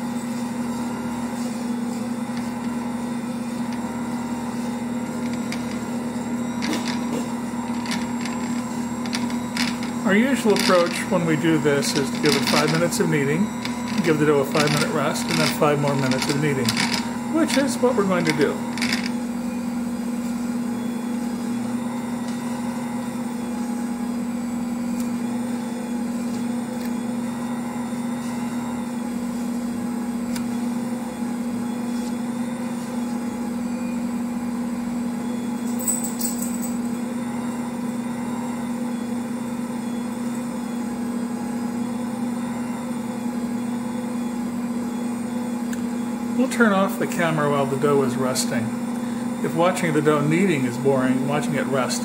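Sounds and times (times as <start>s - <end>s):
stand mixer motor humming: 0.0s - 35.7s, 36.8s - 52.0s.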